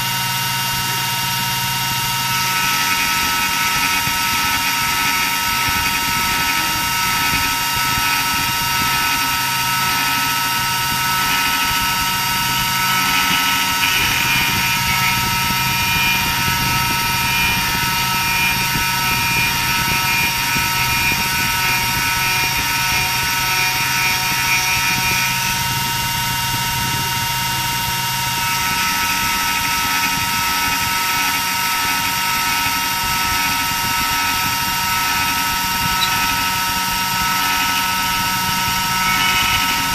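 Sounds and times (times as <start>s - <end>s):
end mill cutting wood: 0.0s - 39.9s
low hum: 0.0s - 39.9s
router spindle whine: 0.0s - 39.9s.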